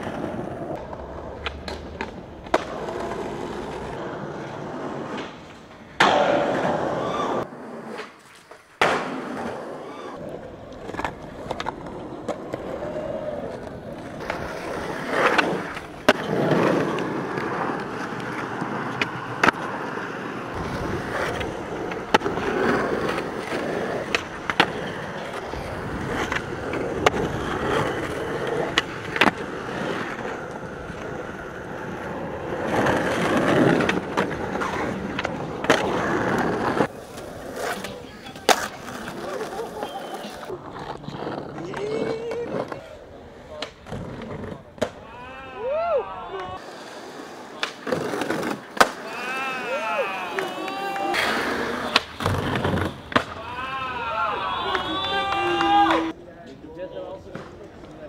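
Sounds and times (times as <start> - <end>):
skateboard tail clacking: 0.0 - 45.2, 46.3 - 56.2
skateboard wheels rolling: 0.0 - 58.0.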